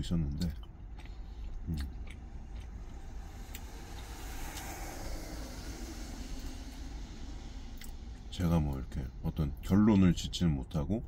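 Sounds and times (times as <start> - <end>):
noisy wash: 0.0 - 11.0.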